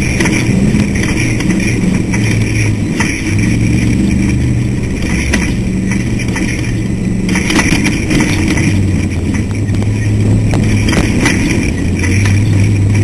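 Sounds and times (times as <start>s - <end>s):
car rattling clicks and knocks: 0.0s - 13.0s
race car engine running hard: 0.0s - 13.0s.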